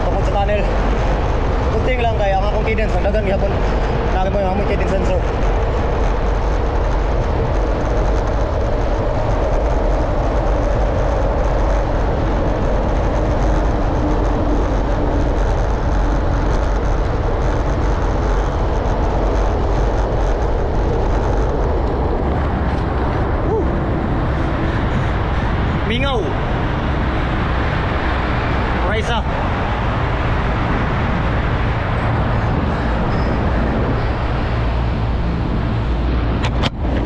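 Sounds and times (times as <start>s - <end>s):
road rumble: 0.0s - 37.0s
wind noise on microphone: 0.0s - 37.0s.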